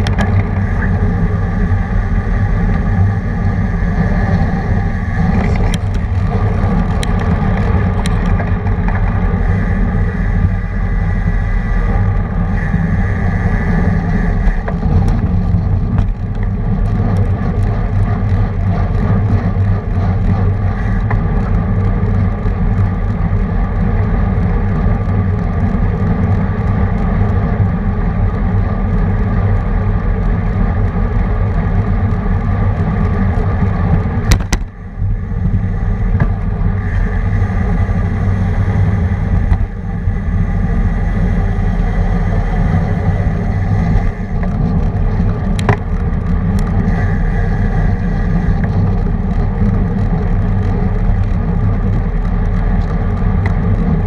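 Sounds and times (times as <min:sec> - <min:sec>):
tyre and road noise: 0:00.0 - 0:54.0
wind rumble on microphone: 0:00.0 - 0:54.0.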